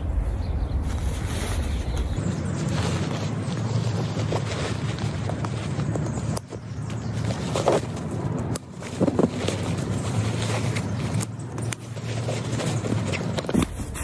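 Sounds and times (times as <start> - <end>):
steady low rumble: 0.0 - 11.7
fabric rustling and scraping: 0.8 - 14.0
straps scraping and buckles clicking: 1.3 - 14.0.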